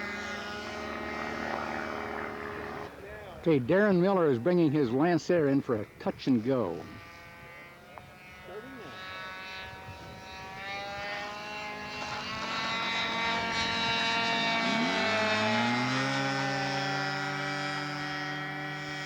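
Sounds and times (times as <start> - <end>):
model airplane engine passing: 0.0 - 19.0.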